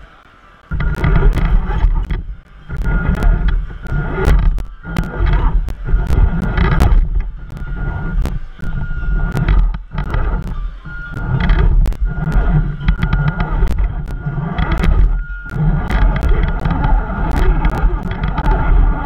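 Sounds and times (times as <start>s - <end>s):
thin motor whine: 0.0s - 19.0s
loud low rumble: 0.7s - 19.0s
sharp clicks: 0.7s - 19.0s.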